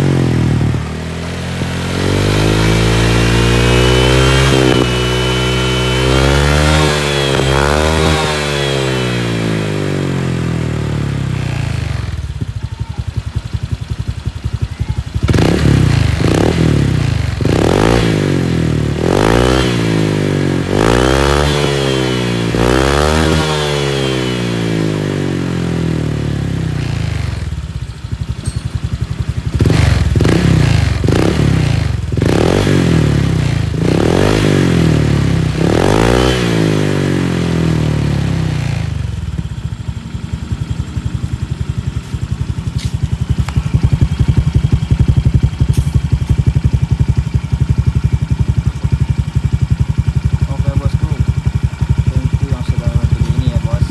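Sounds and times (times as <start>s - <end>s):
motorcycle engine revving: 0.0s - 53.9s
motorcycle idling: 0.0s - 53.9s.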